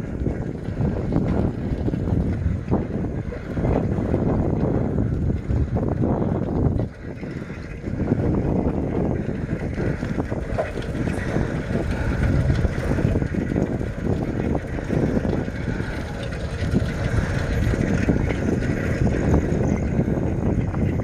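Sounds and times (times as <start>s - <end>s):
vehicle rumble: 0.0s - 21.0s
wind buffeting microphone: 0.0s - 21.0s.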